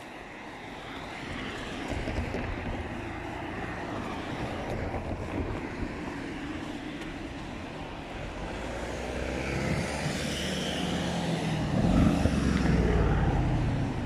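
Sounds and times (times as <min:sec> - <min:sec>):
tyre noise on street: 0:00.0 - 0:14.0
vehicle engine hum passing: 0:00.0 - 0:14.0.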